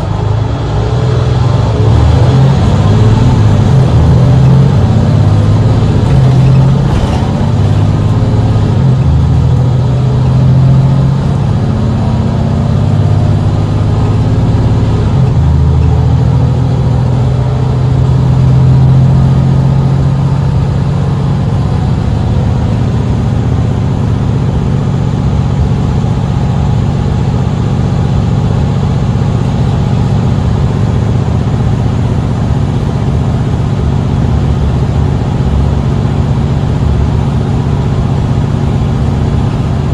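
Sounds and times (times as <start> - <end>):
bus engine running under load: 0.0 - 39.9.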